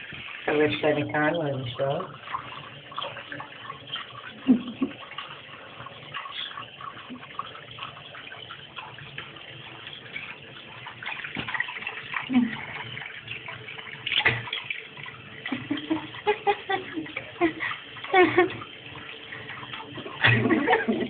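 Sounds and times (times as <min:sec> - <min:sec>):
cat drinking from water stream: 0:00.0 - 0:21.0
water running from tap into sink: 0:00.0 - 0:21.0.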